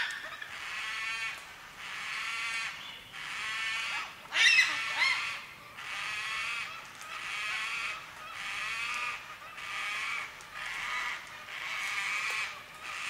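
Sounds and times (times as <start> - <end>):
cockatoos wailing calls: 0.0 - 13.0.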